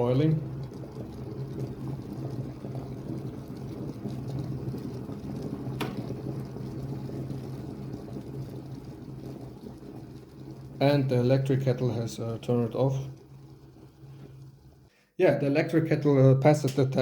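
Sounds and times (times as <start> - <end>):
water boiling in kettle: 0.0 - 17.0.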